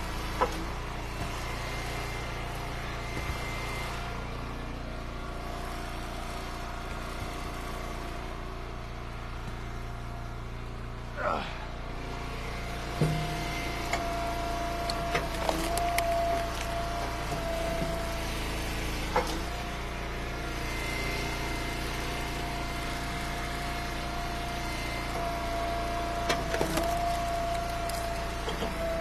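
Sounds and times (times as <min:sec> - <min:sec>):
hydraulic whine: 0:00.0 - 0:29.0
wood splitter engine running: 0:00.0 - 0:29.0.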